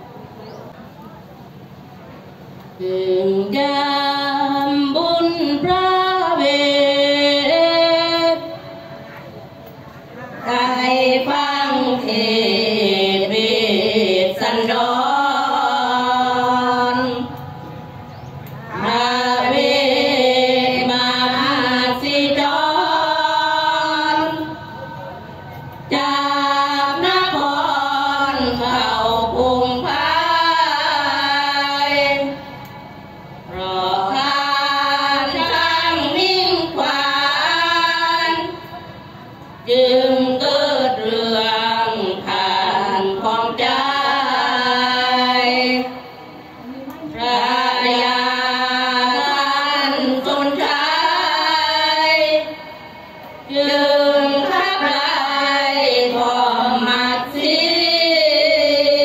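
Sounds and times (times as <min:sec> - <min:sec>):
women chanting in unison: 0:02.8 - 0:59.0.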